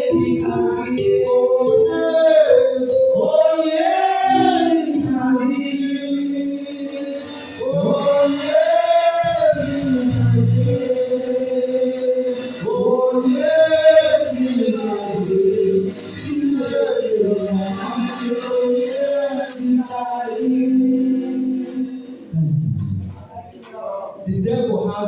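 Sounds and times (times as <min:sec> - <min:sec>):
voices singing gospel song: 0:00.0 - 0:25.0.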